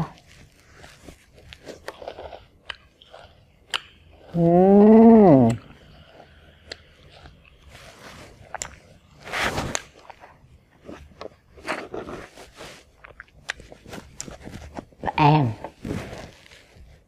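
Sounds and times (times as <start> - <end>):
chewing food: 0.0 - 16.9.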